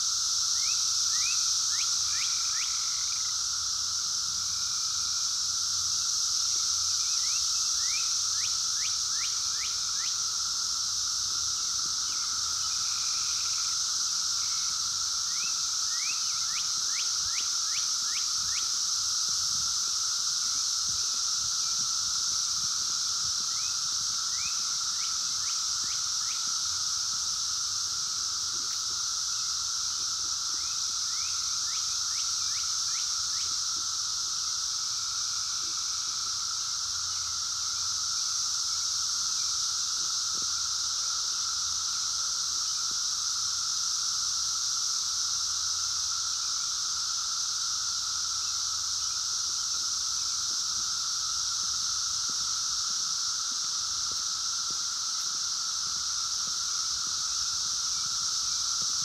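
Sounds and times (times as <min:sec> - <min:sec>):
cicadas buzzing drone: 0:00.0 - 0:59.0.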